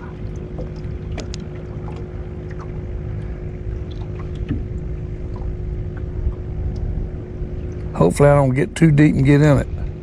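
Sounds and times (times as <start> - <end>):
boat engine rumble: 0.0 - 10.0
faint constant hum: 0.0 - 10.0.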